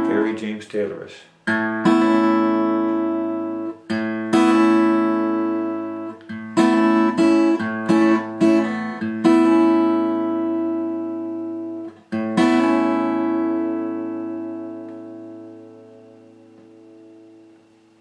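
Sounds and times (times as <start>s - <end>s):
fingerpicked acoustic guitar: 0.0s - 0.4s, 1.4s - 18.0s.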